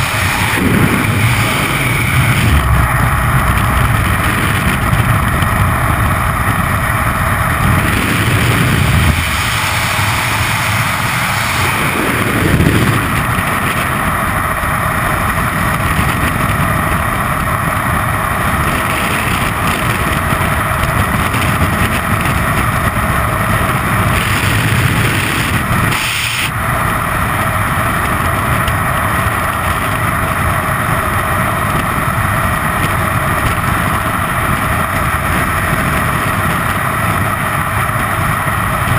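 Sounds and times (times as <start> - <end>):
wind roaring over microphone: 0.0 - 38.9.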